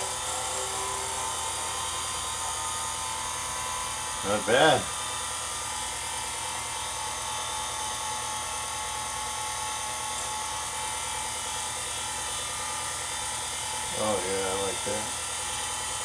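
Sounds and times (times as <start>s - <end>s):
lathe motor whirring: 0.0s - 16.0s.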